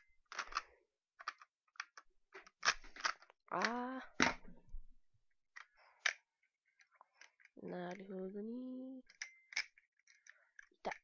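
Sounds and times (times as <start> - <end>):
pistol parts clicking and clattering: 0.0 - 4.6, 5.5 - 8.4, 9.0 - 11.0.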